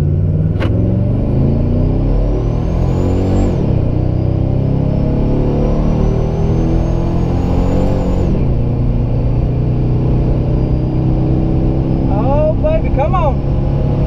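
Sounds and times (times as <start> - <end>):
supercharger whine: 0.0 - 14.0
truck engine at full throttle: 0.0 - 14.0.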